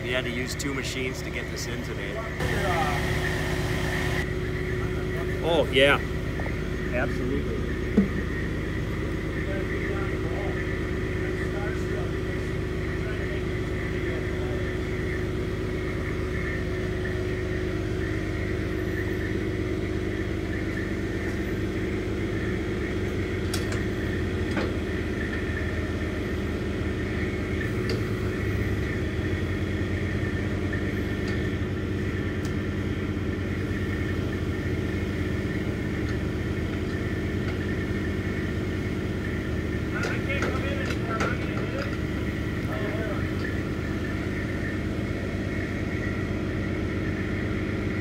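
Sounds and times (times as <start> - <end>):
heavy equipment engine running: 0.0 - 48.0.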